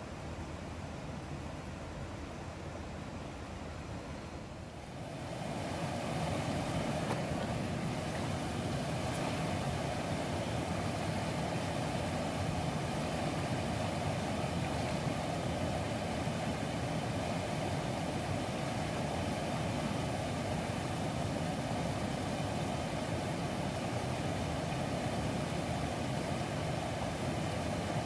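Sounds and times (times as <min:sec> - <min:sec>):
stream rushing over rapids: 0:04.7 - 0:28.0.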